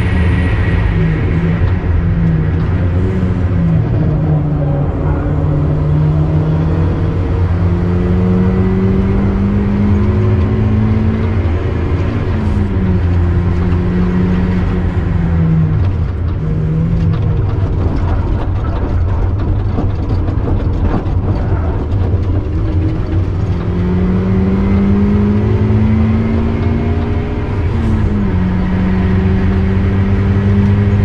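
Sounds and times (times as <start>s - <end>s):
car engine revving: 0.0s - 31.0s
steady rushing noise: 0.0s - 31.0s.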